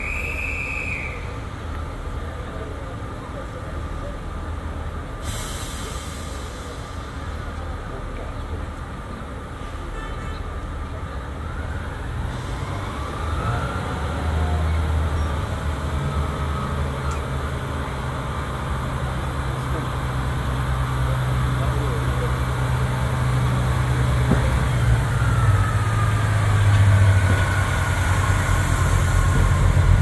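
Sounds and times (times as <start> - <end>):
diesel train engine droning: 0.0 - 30.0.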